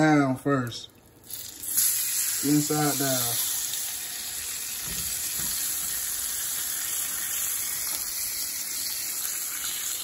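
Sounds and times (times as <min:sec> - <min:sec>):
fish sizzling in a pan: 0:01.3 - 0:10.0.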